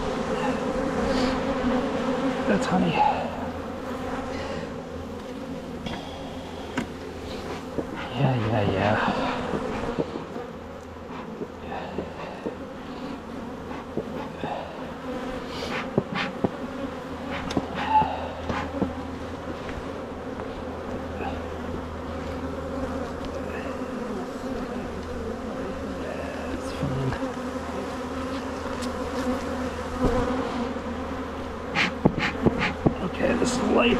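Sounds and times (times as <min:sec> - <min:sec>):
bees buzzing: 0:00.0 - 0:33.9.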